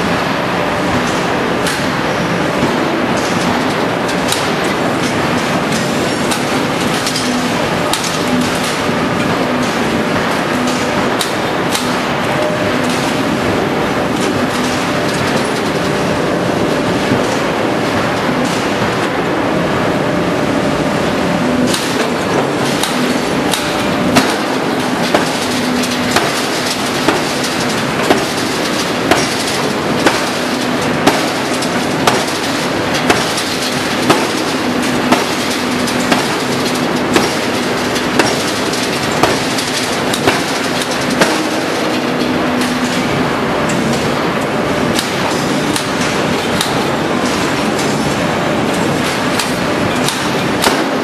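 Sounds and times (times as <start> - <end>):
machinery hum: 0.0 - 51.0.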